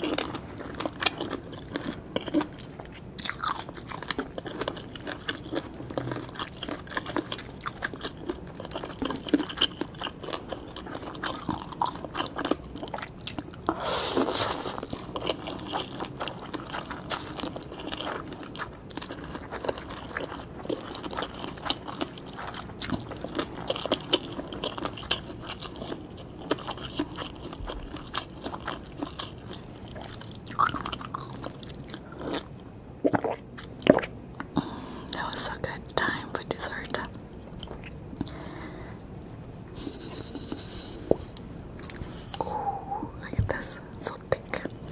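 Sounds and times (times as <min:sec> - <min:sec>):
crunching and chewing food: 0:00.0 - 0:44.9.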